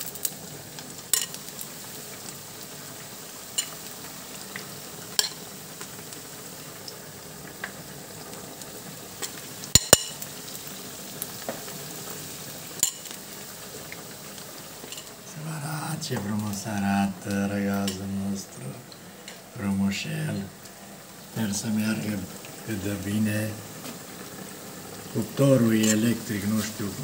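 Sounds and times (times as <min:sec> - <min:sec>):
onion rings sizzling in oil: 0:00.0 - 0:27.0.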